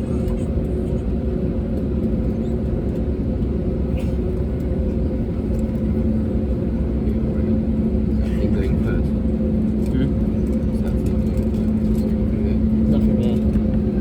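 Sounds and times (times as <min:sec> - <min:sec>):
jet engines idling in cabin: 0:00.0 - 0:14.0.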